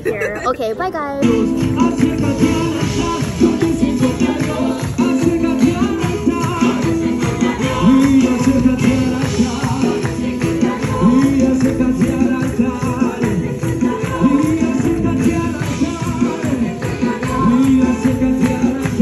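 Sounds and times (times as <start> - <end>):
live worship band: 1.2 - 19.0
person singing: 1.2 - 19.0.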